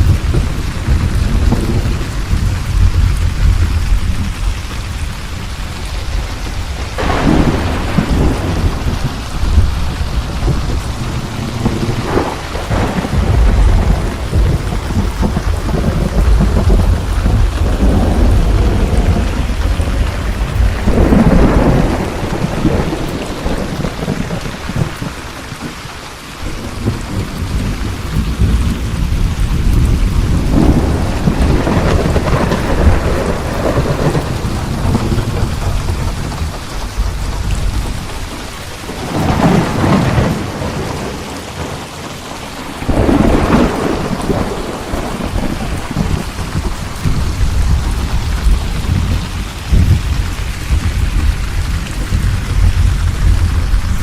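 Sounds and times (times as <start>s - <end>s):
rolling thunder: 0.0s - 54.0s
steady rain: 0.0s - 54.0s.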